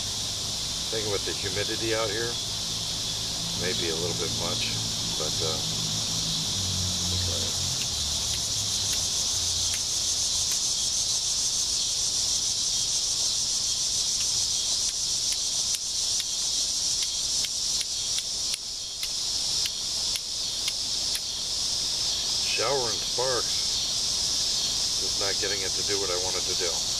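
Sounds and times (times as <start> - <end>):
high-pitched insect drone: 0.0 - 26.9.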